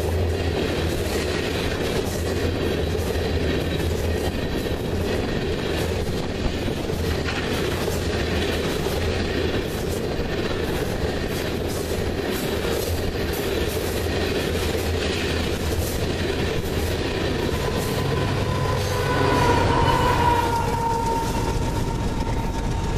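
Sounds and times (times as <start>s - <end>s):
freight train rumbling past: 0.0s - 22.9s
locomotive high steady tone: 0.0s - 22.9s
wheels clicking over rail joints: 0.0s - 22.9s.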